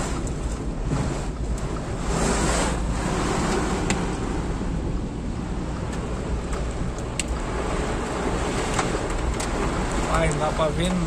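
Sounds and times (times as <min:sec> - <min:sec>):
heavy rain beating on car: 0:00.0 - 0:11.0.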